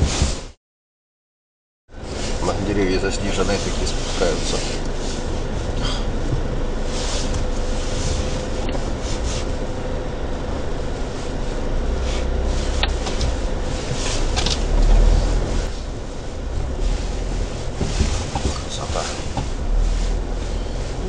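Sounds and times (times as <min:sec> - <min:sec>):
car engine: 0:01.9 - 0:21.0
tyres crunching through snow: 0:02.0 - 0:21.0.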